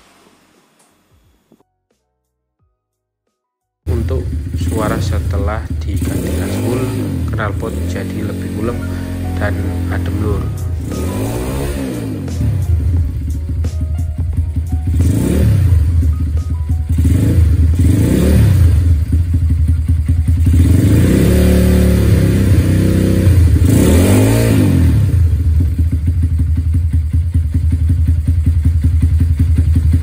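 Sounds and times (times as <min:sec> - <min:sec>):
motorcycle engine idling and revving: 0:03.9 - 0:30.0.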